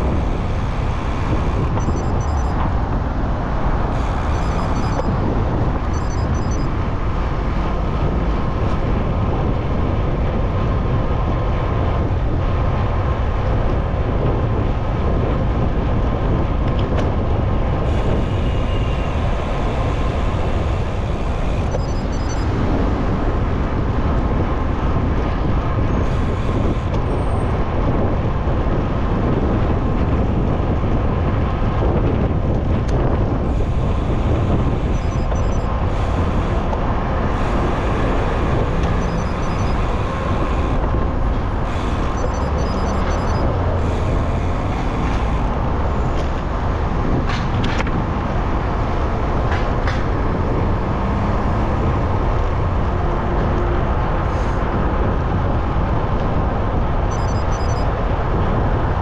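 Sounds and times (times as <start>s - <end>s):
city traffic noise: 0.0s - 59.0s
wind rumble on microphone: 0.0s - 59.0s.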